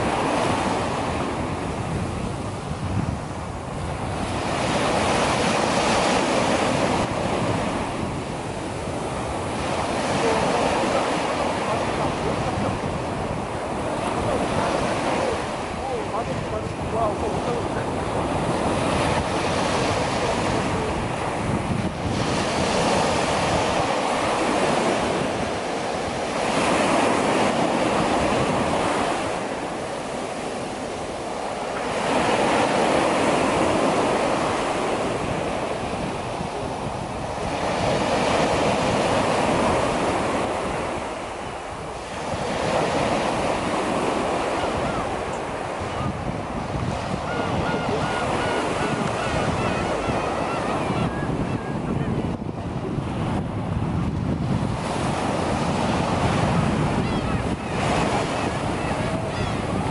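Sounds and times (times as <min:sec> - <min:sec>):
waves breaking on sandy beach: 0:00.0 - 0:59.9
wind rumbling on microphone: 0:00.0 - 0:59.9.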